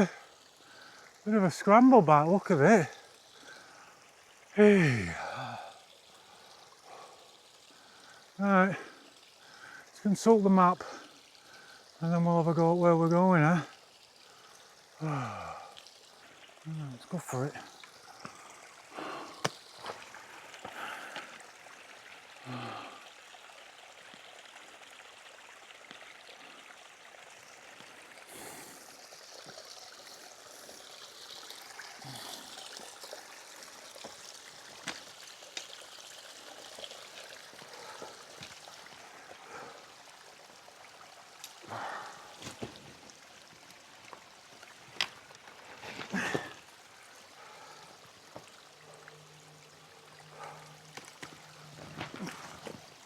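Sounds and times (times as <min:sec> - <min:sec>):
stream trickling: 0:00.0 - 0:53.0.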